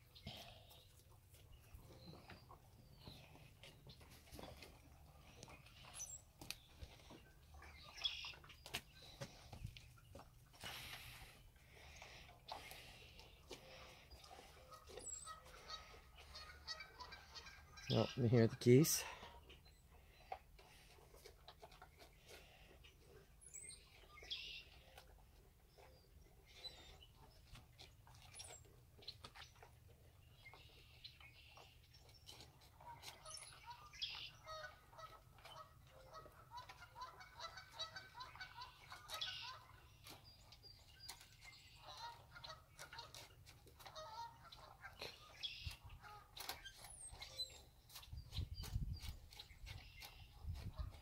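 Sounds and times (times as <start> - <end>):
dogs crunching dry kibble: 0.0 - 17.8, 19.2 - 51.0.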